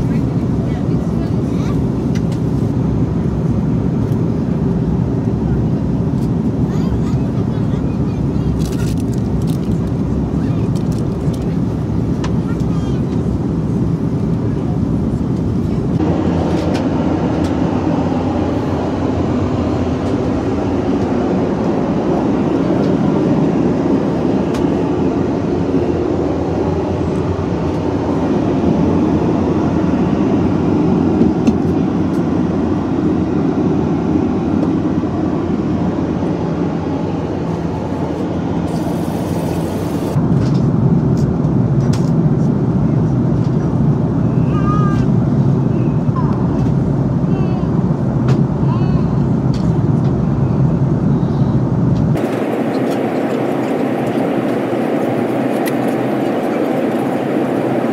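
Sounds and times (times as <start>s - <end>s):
airliner engines rumbling in cabin: 0.0s - 57.9s.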